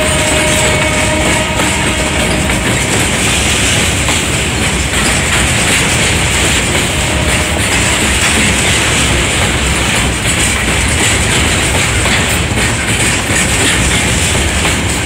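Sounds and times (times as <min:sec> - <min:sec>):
freight wagon wheels rumbling: 0:00.0 - 0:15.0.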